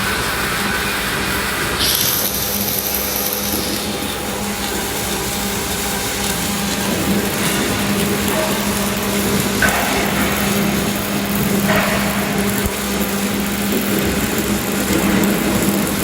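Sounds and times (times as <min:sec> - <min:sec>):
arc welding crackle and hiss: 0:00.0 - 0:16.0
steady hum: 0:00.0 - 0:16.0.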